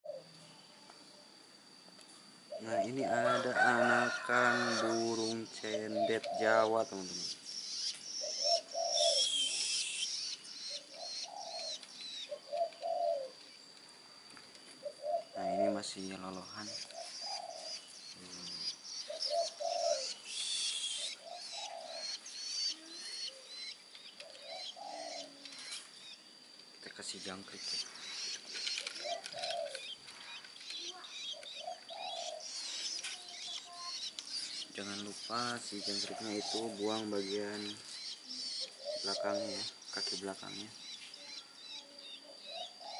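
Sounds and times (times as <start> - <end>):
lower bird notes: 0.1 - 13.7, 14.4 - 42.9
nestlings begging chirps: 0.1 - 42.9.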